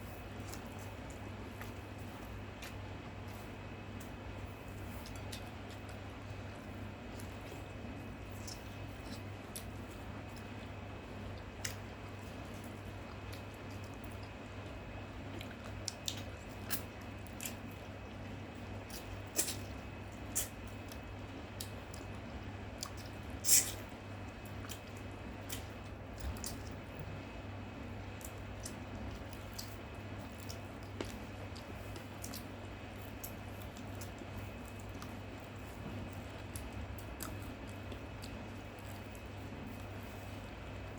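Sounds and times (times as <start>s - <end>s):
steady low hum: 0.0s - 40.9s
wet chewing and mouth smacks: 0.3s - 27.1s, 28.2s - 40.6s.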